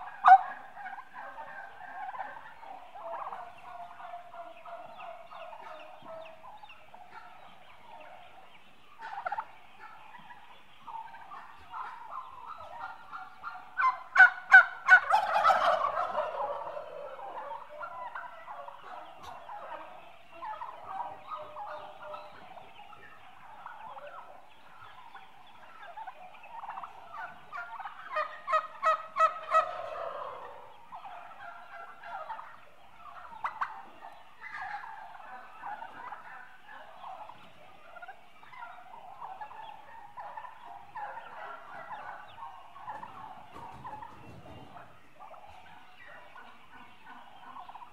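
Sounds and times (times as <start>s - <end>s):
turkey rattling calls: 0.0s - 47.9s
turkeys calling and chattering: 0.0s - 47.9s.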